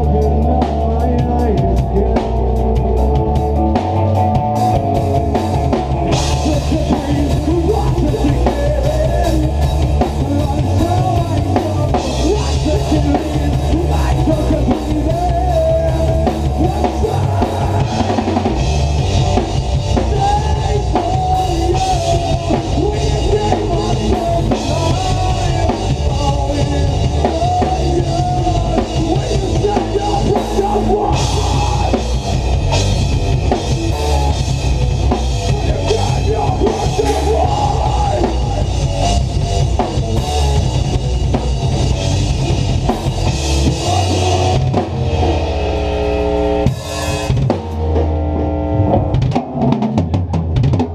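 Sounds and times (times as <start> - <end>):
drum kit: 0.0 - 50.9
rock band playing live: 0.0 - 50.9.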